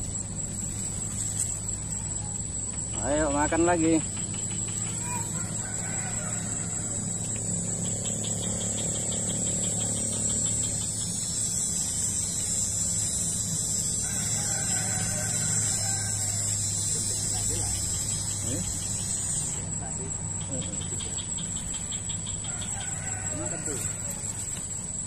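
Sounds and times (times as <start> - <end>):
faint wavering calls: 0.0 - 25.0
high-pitched insect buzz: 0.0 - 25.0.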